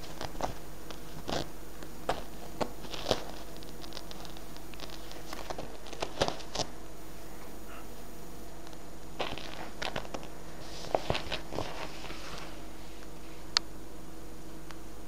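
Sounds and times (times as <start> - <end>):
fabric rustles and scratches: 0.0 - 7.8, 9.2 - 13.4.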